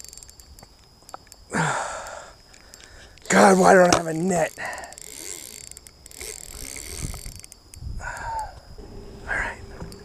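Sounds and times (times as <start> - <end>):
fishing reel clicking: 0.0 - 8.7.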